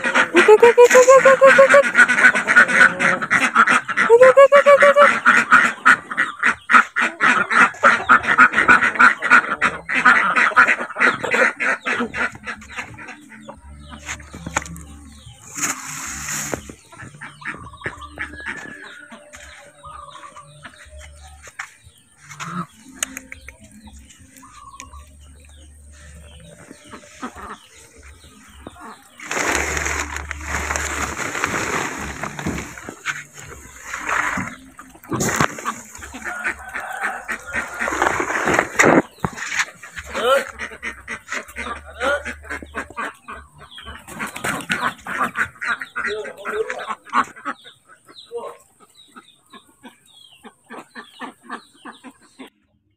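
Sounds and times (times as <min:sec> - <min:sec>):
ducks quacking: 0:00.0 - 0:52.7.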